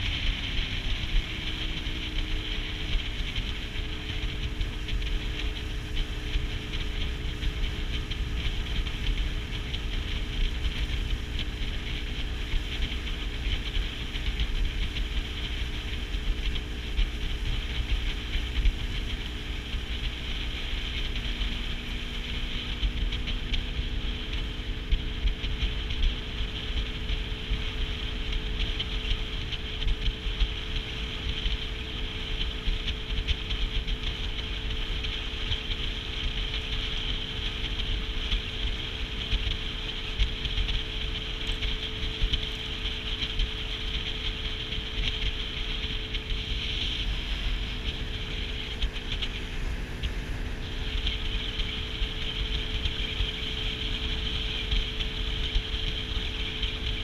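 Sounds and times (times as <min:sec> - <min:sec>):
outboard motor running: 0:00.0 - 0:57.0
wind rumbling on microphone: 0:00.0 - 0:57.0.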